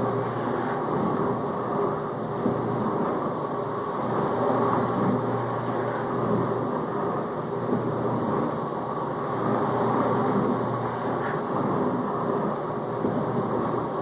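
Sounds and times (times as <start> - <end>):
dishwasher pump humming: 0.0 - 14.0.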